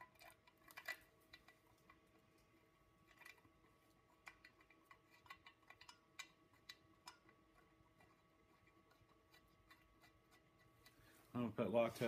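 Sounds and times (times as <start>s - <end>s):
small metallic clicks and taps: 0.0s - 11.1s.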